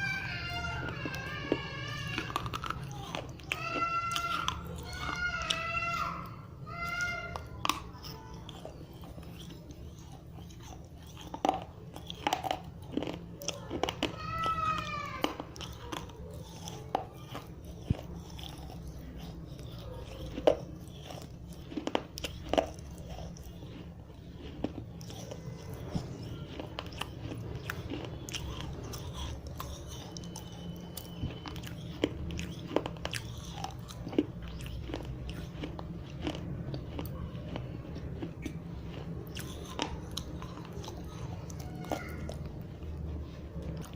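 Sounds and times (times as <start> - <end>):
chewing: 0.0 - 43.9.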